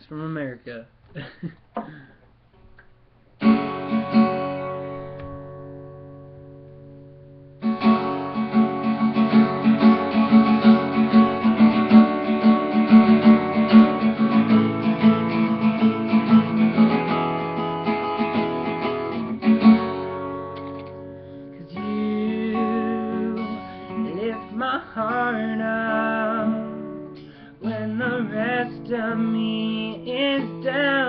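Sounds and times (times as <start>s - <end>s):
acoustic guitar playing: 3.4s - 31.0s.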